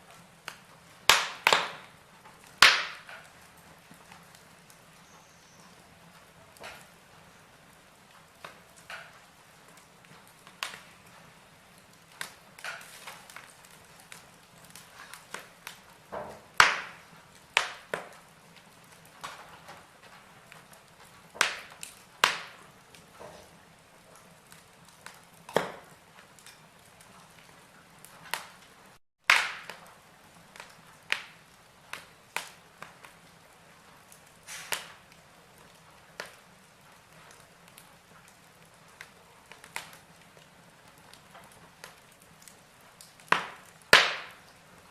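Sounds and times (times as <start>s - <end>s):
fire hiss: 0.0s - 24.1s, 29.4s - 44.9s
logs crackling and popping: 0.0s - 44.9s.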